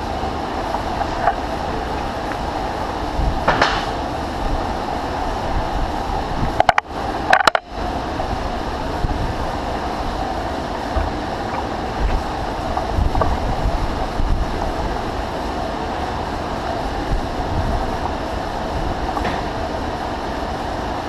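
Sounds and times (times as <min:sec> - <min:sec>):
lathe droning: 0:00.0 - 0:21.0.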